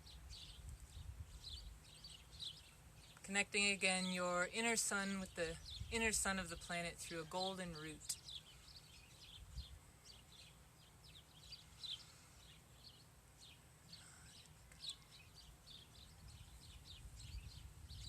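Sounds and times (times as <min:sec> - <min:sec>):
low outdoor background hum: 0:00.0 - 0:18.0
small birds chirping: 0:00.0 - 0:18.0.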